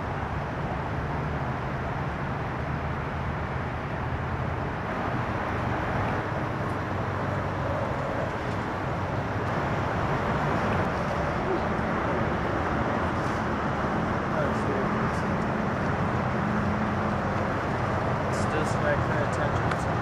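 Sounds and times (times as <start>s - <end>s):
distant vehicles rumbling: 0.0s - 20.0s.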